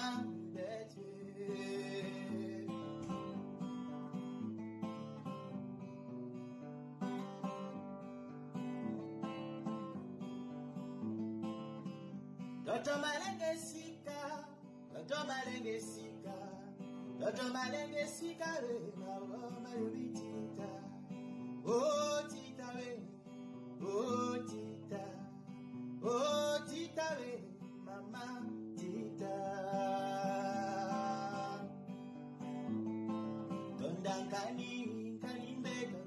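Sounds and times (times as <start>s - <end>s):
acoustic guitar music: 0.0s - 36.0s.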